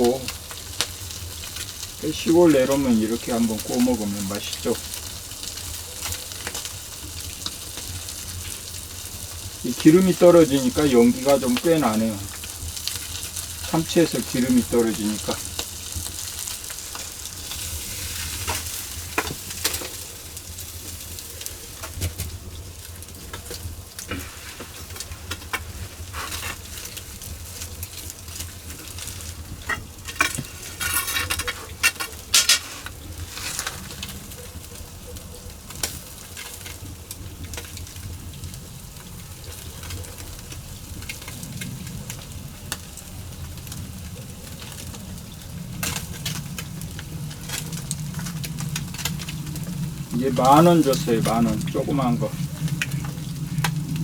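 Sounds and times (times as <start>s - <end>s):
fat sizzling on embers: 0.0s - 54.0s.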